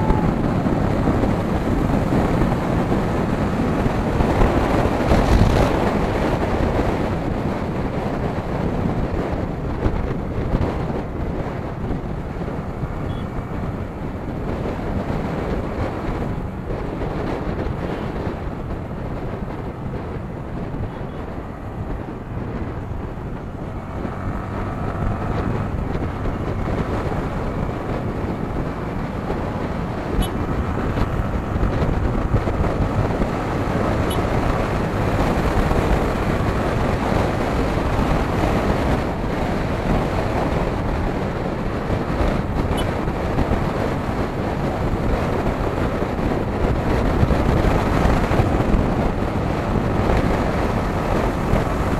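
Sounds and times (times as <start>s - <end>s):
motorcycle engine running: 0.0s - 51.9s
wind noise on microphone: 0.0s - 51.9s.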